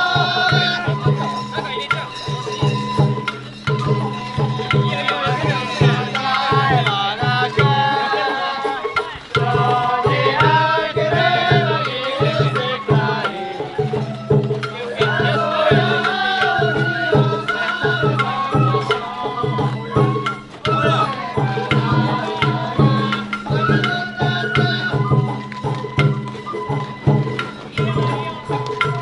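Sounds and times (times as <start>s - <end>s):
bamboo flute melody: 0.0s - 29.0s
taiko drums beating: 0.0s - 29.0s.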